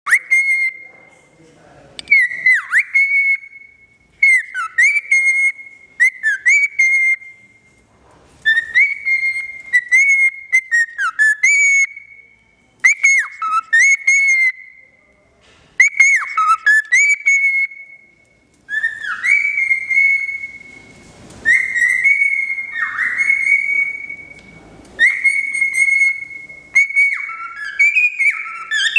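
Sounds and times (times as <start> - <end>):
cockatiel whistling: 0.1 - 1.1, 2.0 - 7.8, 8.4 - 14.9, 15.8 - 28.9.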